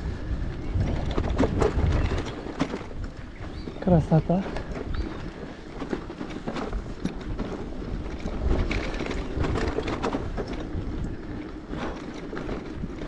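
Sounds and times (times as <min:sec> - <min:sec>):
bicycle rolling rumble: 0:00.0 - 0:13.0
wind noise on microphone: 0:00.0 - 0:13.0.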